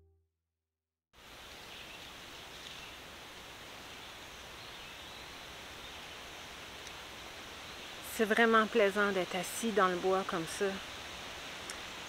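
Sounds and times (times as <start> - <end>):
wind through trees: 1.2 - 12.0.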